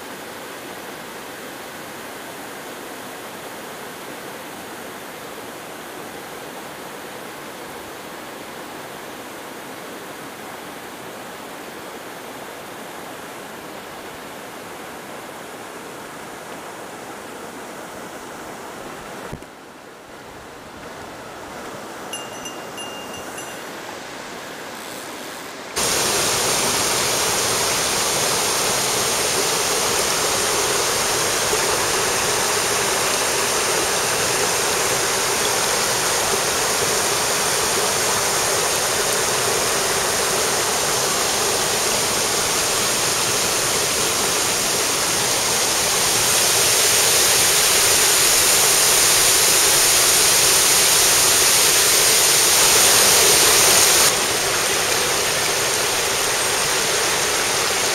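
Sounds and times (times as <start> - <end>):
stream rushing over rocks: 0.0 - 24.8, 25.4 - 57.9.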